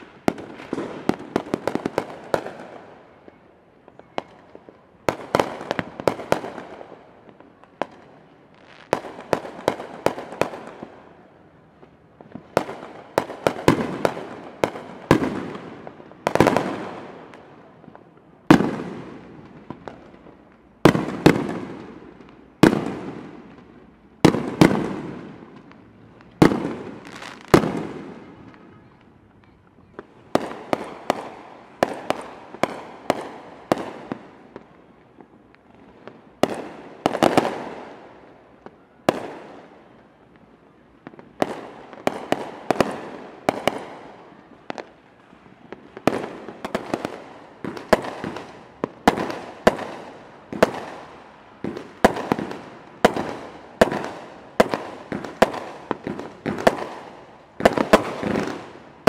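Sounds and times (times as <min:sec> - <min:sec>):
fireworks bangs echoing: 0:00.0 - 0:29.1, 0:29.9 - 0:40.1, 0:41.0 - 0:59.0.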